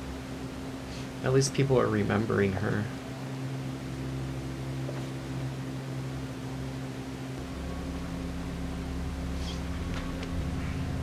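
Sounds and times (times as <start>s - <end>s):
low steady musical drone: 0.0s - 11.0s.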